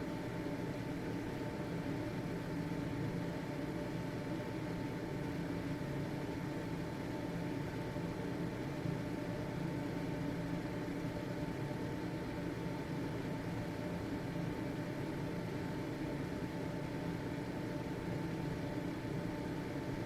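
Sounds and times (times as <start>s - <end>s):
ventilation fan whirring: 0.0s - 20.0s.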